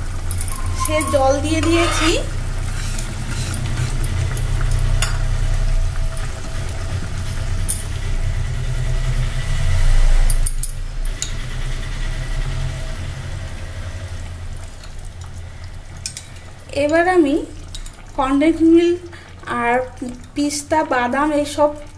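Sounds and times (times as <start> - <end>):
pressure cooker rumbling on burner: 0.0 - 21.6.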